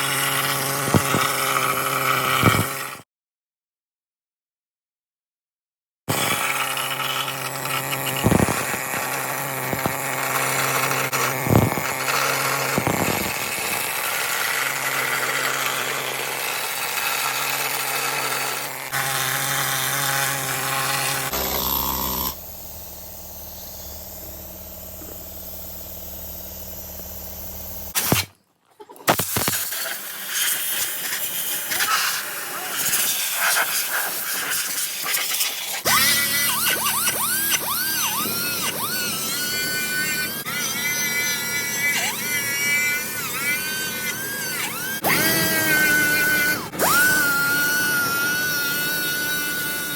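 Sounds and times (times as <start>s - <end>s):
power tool running on metal: 0.0s - 3.0s, 6.1s - 28.2s, 29.1s - 49.9s.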